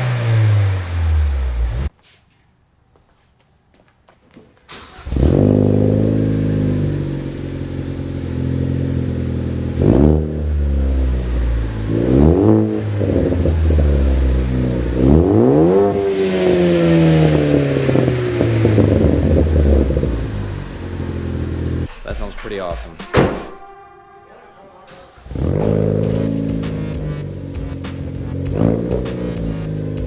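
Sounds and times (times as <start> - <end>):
car engine starting and revving: 0.0 - 1.9, 4.7 - 22.1, 24.9 - 30.0.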